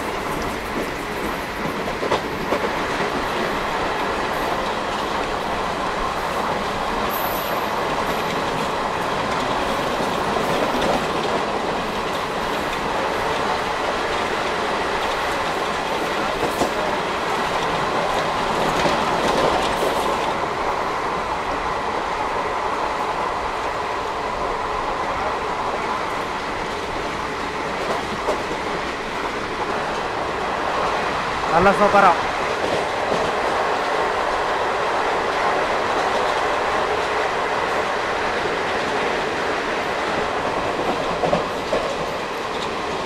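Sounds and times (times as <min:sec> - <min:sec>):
train wheels rolling on rails: 0:00.0 - 0:43.0.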